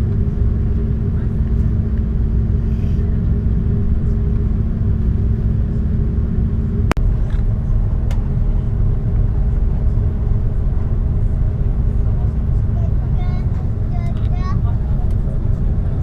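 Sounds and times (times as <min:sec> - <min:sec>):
aircraft cabin engine hum: 0:00.0 - 0:16.0.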